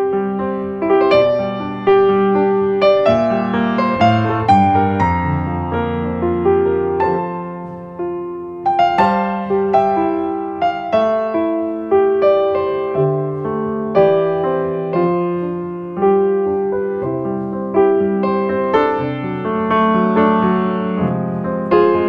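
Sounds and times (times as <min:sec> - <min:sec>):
slow solo piano melody: 0:00.0 - 0:22.0.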